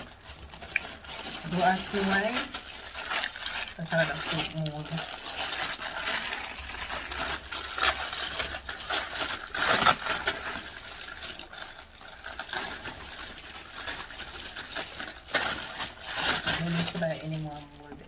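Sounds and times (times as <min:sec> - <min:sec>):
plastic packaging rustling: 0:00.0 - 0:18.0.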